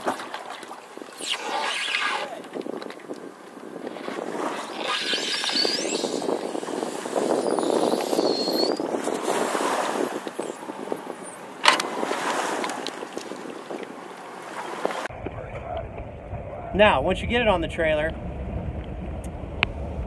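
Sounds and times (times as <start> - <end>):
water noise: 0.0 - 20.0
wind on microphone: 0.0 - 20.0.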